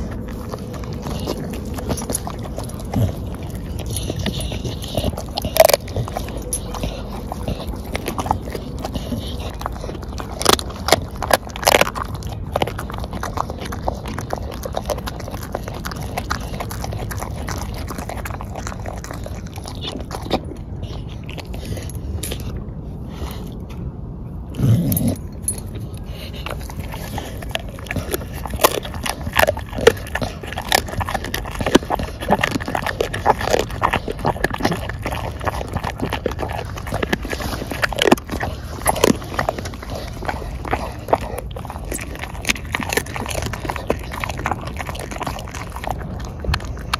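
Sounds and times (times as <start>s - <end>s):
dog chewing on bone: 0.0s - 23.7s, 24.6s - 46.9s.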